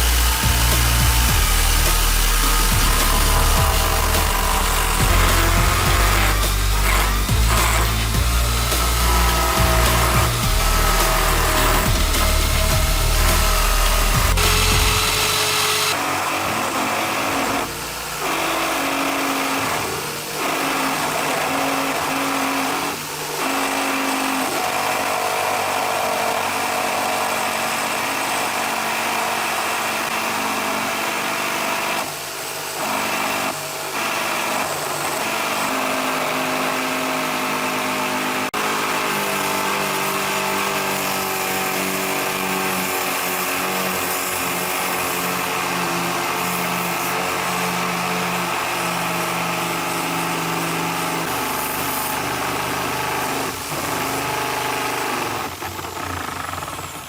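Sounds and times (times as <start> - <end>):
electric drill motor whining: 0.0 - 57.0.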